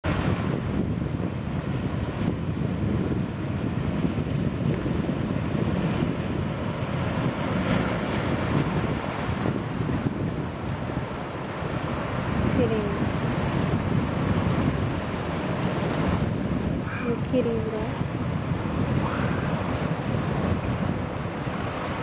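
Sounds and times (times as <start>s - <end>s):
ocean surf breaking on rocks: 0.0s - 22.0s
wind rumbling on microphone: 0.0s - 22.0s.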